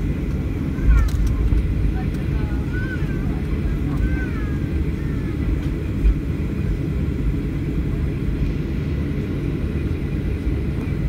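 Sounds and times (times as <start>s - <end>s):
low rumble of jet engines: 0.0s - 11.0s.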